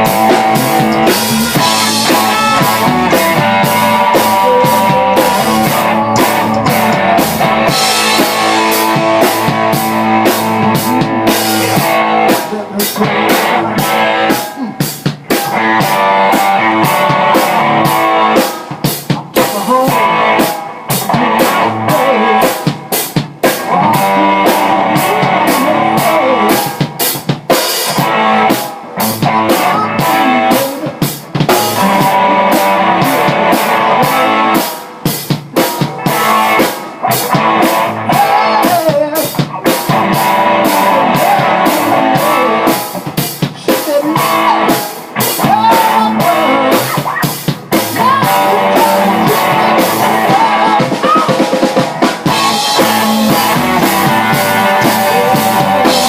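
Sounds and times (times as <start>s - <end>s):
drum kit steady beat: 0.0s - 56.0s
rock band playing: 0.0s - 56.0s.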